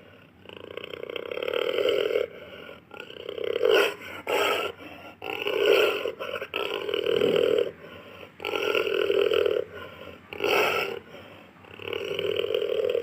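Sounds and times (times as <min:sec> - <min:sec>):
jaguar growling and grunting: 0:00.0 - 0:13.0.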